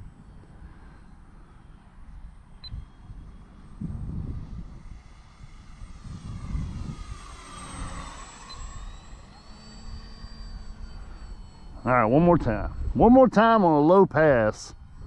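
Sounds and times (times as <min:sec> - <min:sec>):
model airplane motor whining: 0:00.0 - 0:15.0
wind buffeting microphone: 0:00.0 - 0:15.0.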